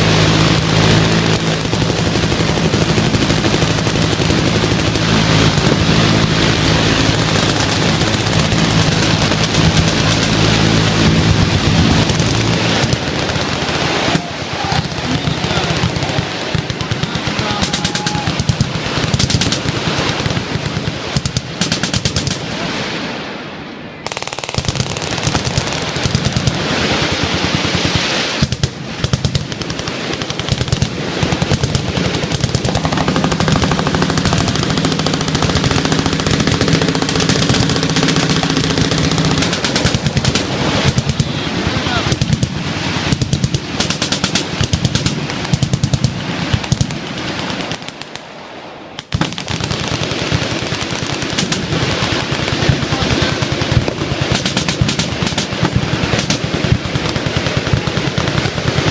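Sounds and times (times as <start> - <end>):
machine guns firing: 0.0 - 22.7, 24.0 - 48.2, 49.0 - 58.9
low drone: 0.0 - 49.0.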